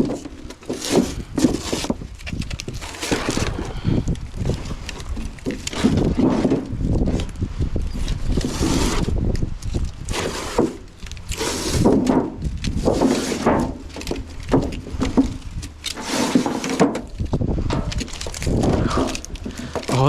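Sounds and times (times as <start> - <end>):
tubing scraping and crinkling: 0.0 - 20.0.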